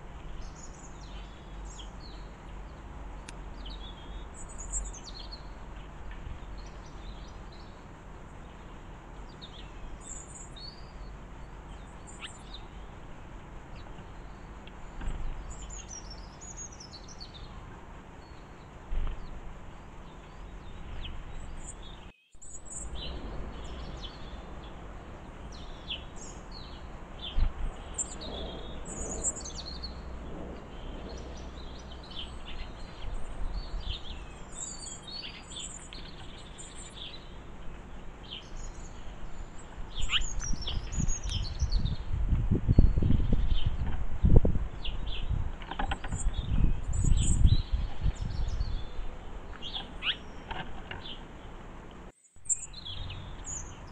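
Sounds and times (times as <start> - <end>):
low outdoor rumble: 0.0 - 53.9
songbirds chirping: 0.0 - 53.9.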